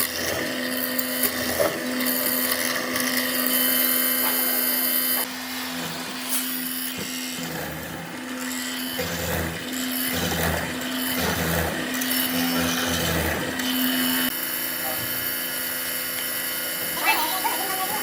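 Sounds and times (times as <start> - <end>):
power tool cutting wood: 0.0 - 18.0.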